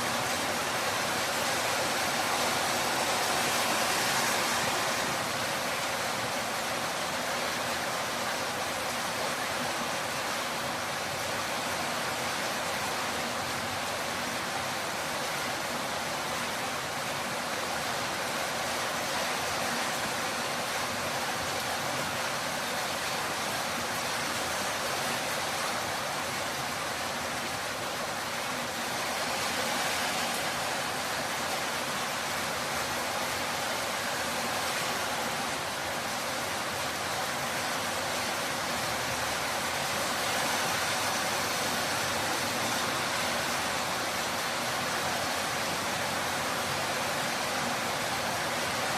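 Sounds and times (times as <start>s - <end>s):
torrential rain falling: 0.0s - 48.9s.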